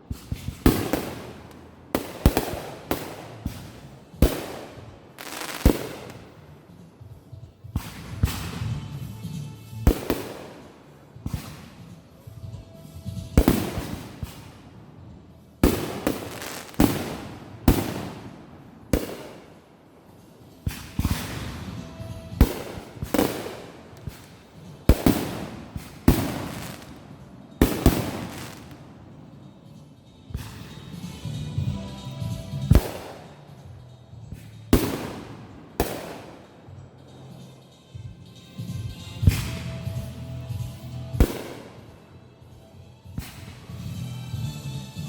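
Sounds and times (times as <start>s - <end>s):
fireworks bangs with crackling: 0.0s - 6.5s, 7.6s - 9.1s, 9.8s - 14.8s, 15.6s - 29.1s, 30.3s - 33.7s, 34.3s - 37.4s, 38.6s - 42.0s, 43.2s - 43.8s.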